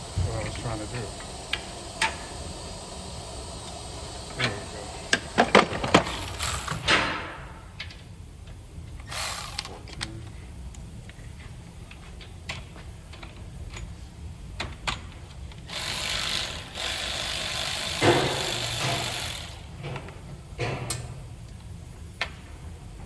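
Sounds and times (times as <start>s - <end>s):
hissing mechanical noise: 0.0s - 8.0s, 8.6s - 23.0s.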